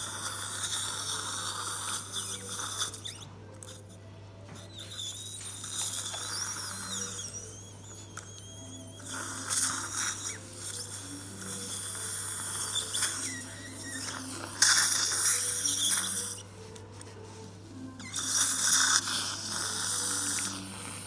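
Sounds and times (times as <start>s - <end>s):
suction tip hissing and slurping: 0.0s - 3.8s, 4.6s - 16.4s, 18.0s - 21.0s.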